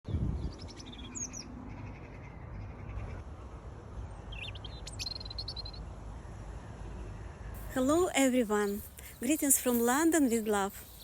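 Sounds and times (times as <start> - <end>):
songbirds chirping: 0.2 - 11.0.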